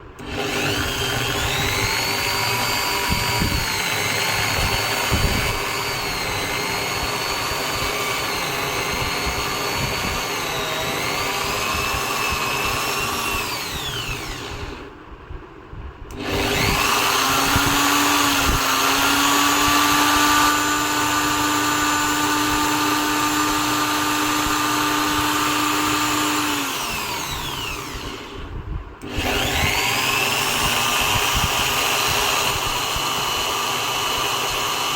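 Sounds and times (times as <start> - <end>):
drill press motor whine: 0.0 - 15.0, 16.1 - 34.9.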